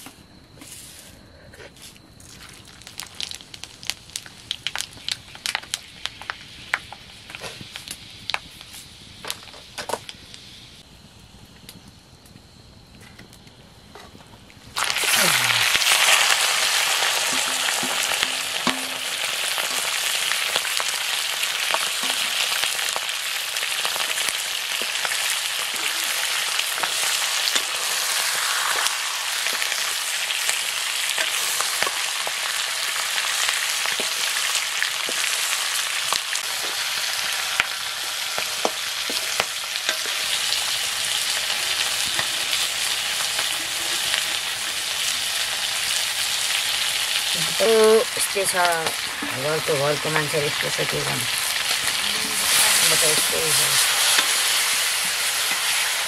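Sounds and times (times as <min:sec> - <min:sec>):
chicken sizzling in hot oil: 0:02.2 - 0:10.8, 0:14.7 - 0:56.0.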